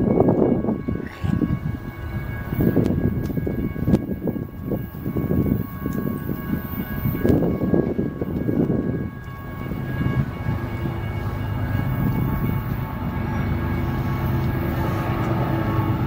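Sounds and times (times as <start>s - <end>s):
faint steady high tones: 0.0s - 16.0s
freight train rumbling: 0.0s - 16.0s.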